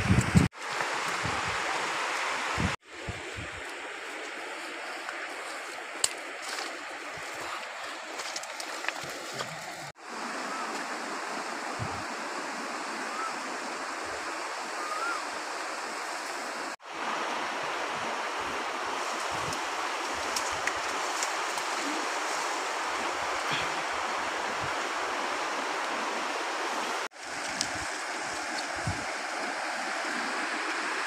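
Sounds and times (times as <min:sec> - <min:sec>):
river flowing: 0:00.0 - 0:31.0.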